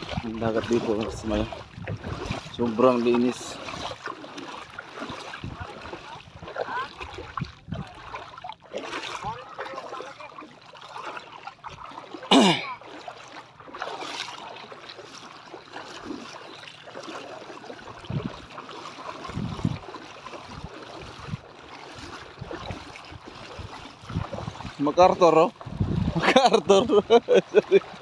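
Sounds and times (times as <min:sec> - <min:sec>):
seawater sloshing around feet: 0:00.0 - 0:28.0.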